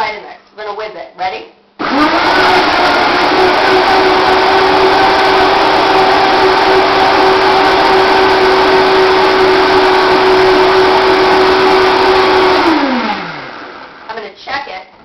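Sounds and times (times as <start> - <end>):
blender motor whirring: 1.8 - 14.1.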